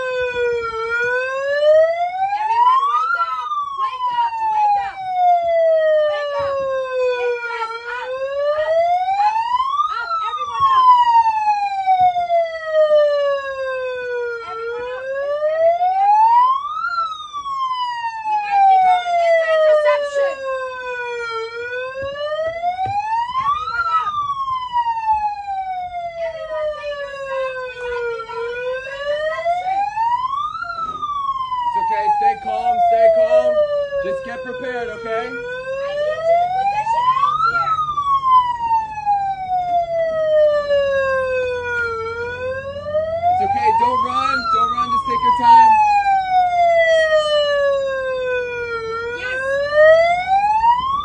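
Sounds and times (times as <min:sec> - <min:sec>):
alarm siren wailing: 0:00.0 - 0:51.0.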